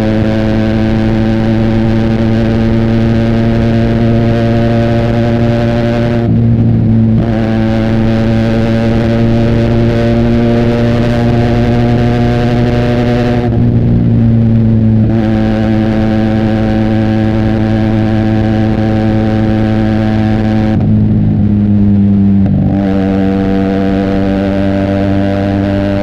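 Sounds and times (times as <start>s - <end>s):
motorcycle engine at cruising revs: 0.0s - 26.0s.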